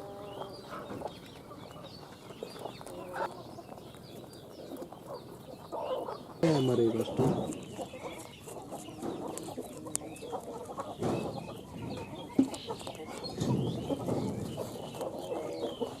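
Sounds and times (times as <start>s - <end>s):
chickens clucking: 0.0s - 16.0s
small birds chirping: 0.0s - 16.0s.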